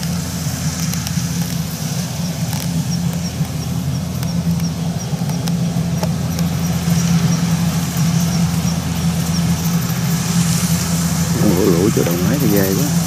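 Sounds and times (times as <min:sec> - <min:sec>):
combine harvester engine droning: 0:00.0 - 0:13.0.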